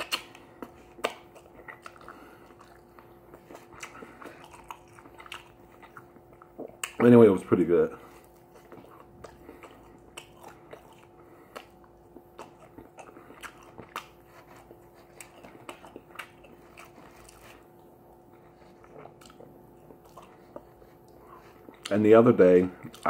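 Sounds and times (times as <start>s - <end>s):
person chewing and crunching: 0.0s - 23.0s.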